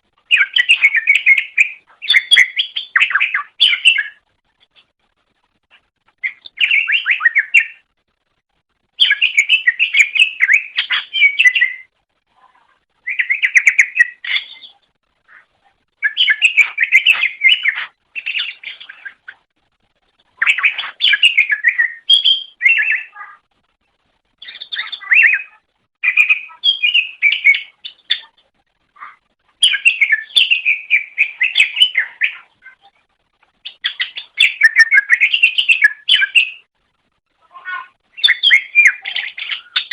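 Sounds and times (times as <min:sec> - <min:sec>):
bird chirping and warbling: 0:00.2 - 0:04.3, 0:06.1 - 0:07.9, 0:09.0 - 0:19.5, 0:20.2 - 0:23.5, 0:24.3 - 0:36.7, 0:37.4 - 0:39.9.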